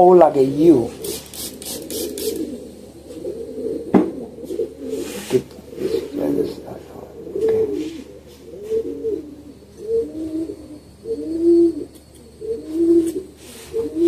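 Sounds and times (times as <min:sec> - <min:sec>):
pigeon cooing: 0:00.0 - 0:14.0.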